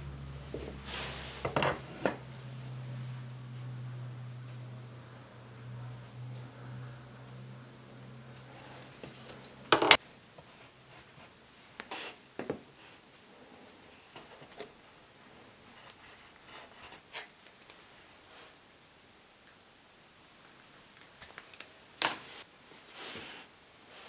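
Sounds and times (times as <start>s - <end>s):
faint low hum: 0.0s - 22.9s.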